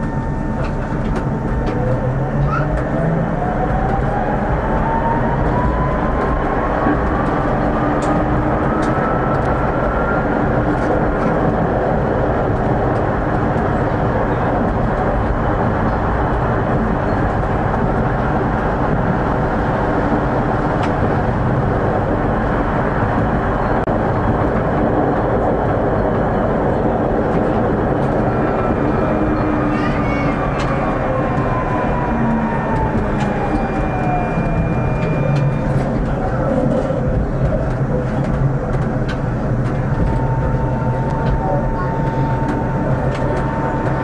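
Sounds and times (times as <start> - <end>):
tram wheels rumbling on track: 0.0 - 44.0.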